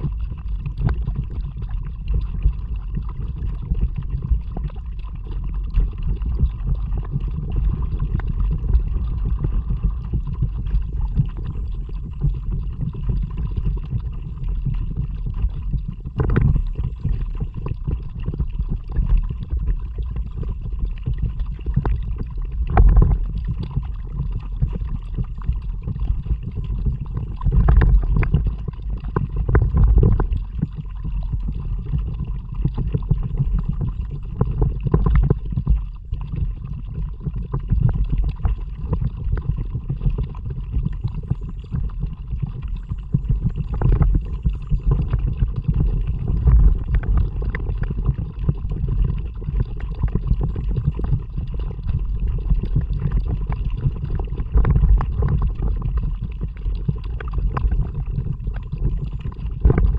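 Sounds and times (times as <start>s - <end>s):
kayak moving through water: 0.0s - 59.9s.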